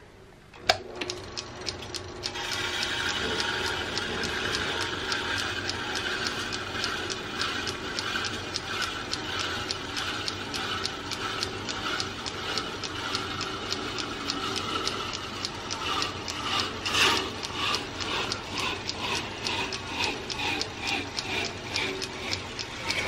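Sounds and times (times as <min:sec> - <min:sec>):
lathe running: 0:01.0 - 0:23.0
hand saw rasping and ticking: 0:01.7 - 0:23.0.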